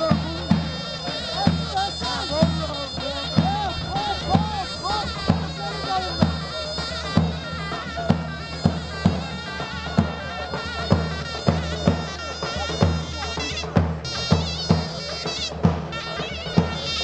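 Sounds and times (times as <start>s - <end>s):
shrill reed pipe melody: 0.0s - 17.0s.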